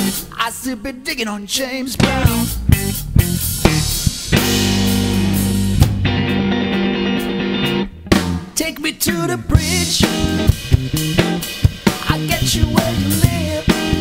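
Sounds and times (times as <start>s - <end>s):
drum kit: 0.0s - 0.7s, 1.9s - 14.0s
electric bass: 1.9s - 14.0s
electric guitar bending notes: 2.0s - 8.6s, 9.2s - 14.0s.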